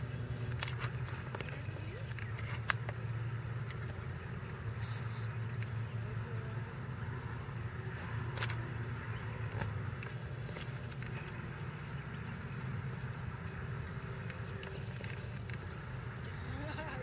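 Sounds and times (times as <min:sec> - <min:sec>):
distant motor hum: 0:00.0 - 0:17.0.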